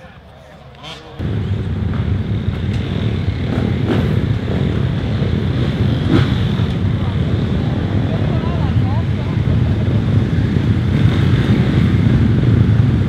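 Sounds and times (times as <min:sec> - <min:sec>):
motocross bike engines: 0:00.0 - 0:13.0.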